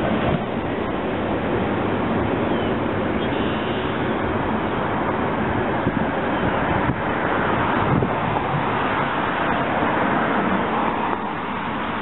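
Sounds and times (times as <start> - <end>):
rain and wind on microphone: 0.0 - 12.0.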